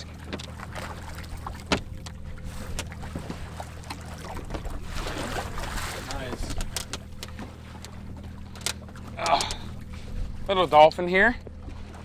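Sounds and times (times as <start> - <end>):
fish splashing in water: 0.0 - 10.0
boat engine idling: 0.0 - 12.0.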